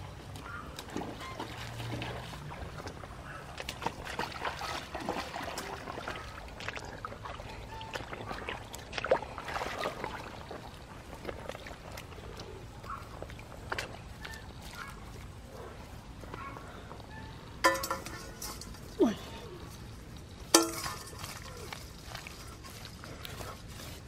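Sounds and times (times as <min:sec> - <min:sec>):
splashing in muddy water: 0:00.0 - 0:15.8, 0:17.6 - 0:24.0.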